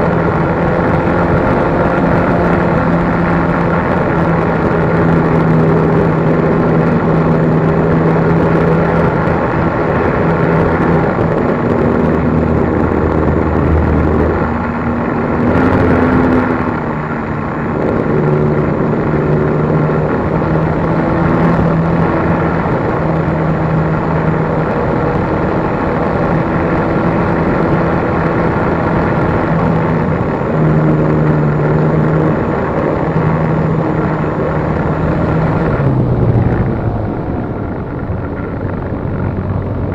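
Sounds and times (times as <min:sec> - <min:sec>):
model plane propeller droning: 0:00.0 - 0:39.9
wind rushing: 0:00.0 - 0:39.9.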